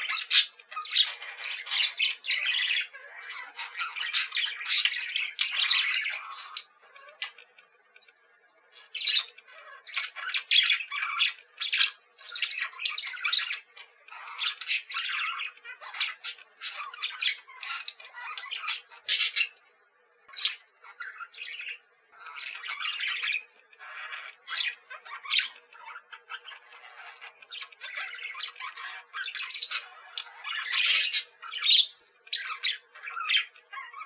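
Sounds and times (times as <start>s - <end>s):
budgerigars chattering and squawking: 0.0s - 34.0s.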